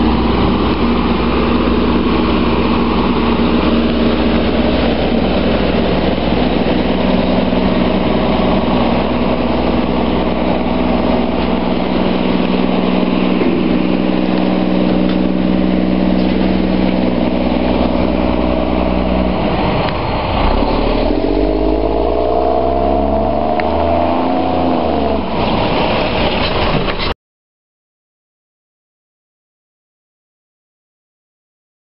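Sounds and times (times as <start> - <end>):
diesel truck engine idling and revving: 0.0 - 27.1.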